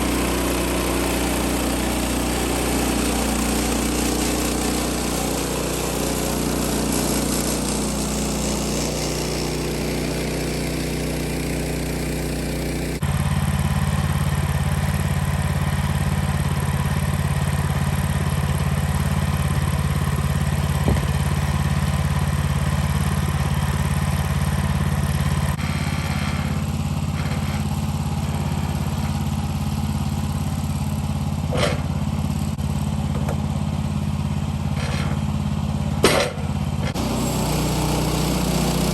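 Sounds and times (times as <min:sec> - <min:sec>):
gasoline engine running: 0:00.0 - 0:38.9.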